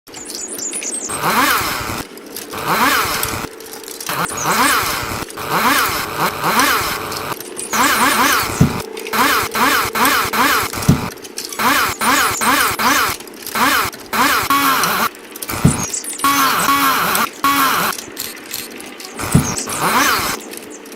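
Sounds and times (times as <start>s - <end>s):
chainsaw engine revving: 1.0s - 20.4s.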